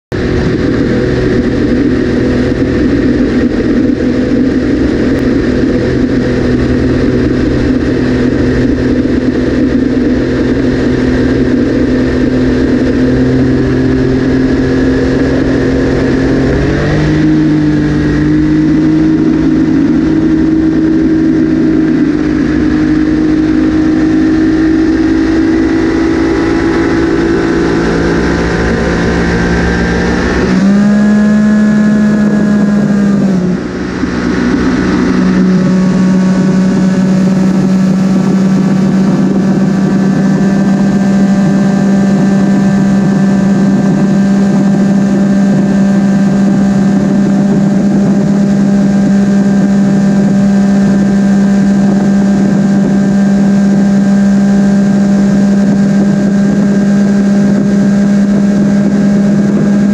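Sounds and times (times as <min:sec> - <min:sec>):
motorcycle engine running hard: 0:00.0 - 0:59.9.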